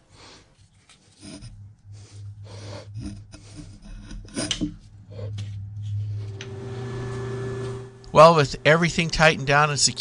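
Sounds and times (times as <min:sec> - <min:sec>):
low steady hum: 0:00.2 - 0:10.0
metal scraping and rubbing: 0:00.7 - 0:10.0.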